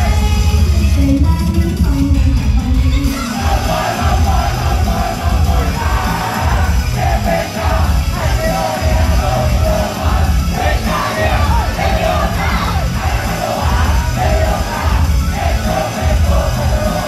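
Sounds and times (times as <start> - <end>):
pop song over loudspeakers: 0.0 - 17.0
girl group singing: 3.0 - 17.0
crowd yelling along: 3.1 - 17.0.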